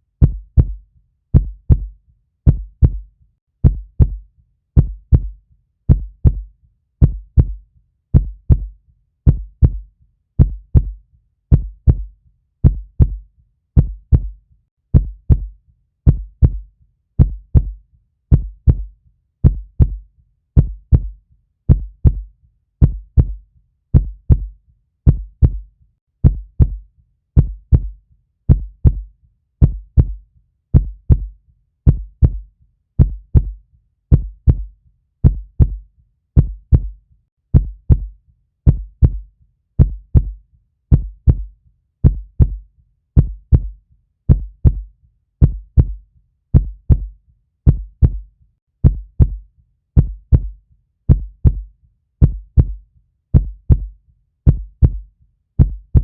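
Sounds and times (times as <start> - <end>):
heartbeat thumps: 0.2 - 4.2, 4.8 - 13.2, 13.8 - 20.0, 20.6 - 26.8, 27.4 - 31.3, 31.9 - 35.8, 36.4 - 42.6, 43.2 - 49.4, 50.0 - 53.9, 54.5 - 56.0.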